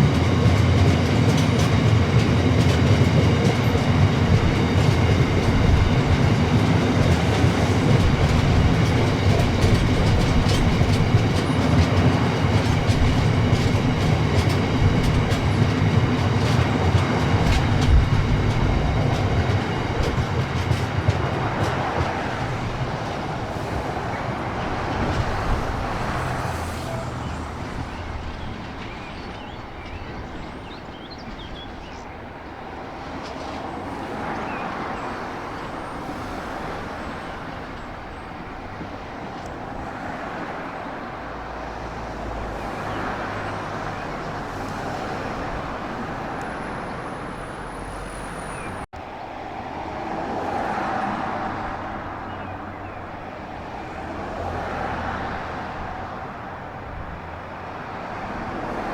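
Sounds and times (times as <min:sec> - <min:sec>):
train wheels clicking over rail joints: 0:00.0 - 0:49.1
train rumble: 0:00.0 - 0:58.9.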